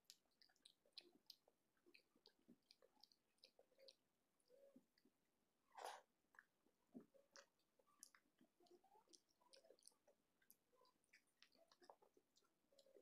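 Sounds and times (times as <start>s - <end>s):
mouth clicks and smacks: 0.0s - 5.1s, 5.8s - 13.0s
fingers squishing soft rice: 0.0s - 5.2s, 5.8s - 13.0s
wet chewing: 0.0s - 13.0s.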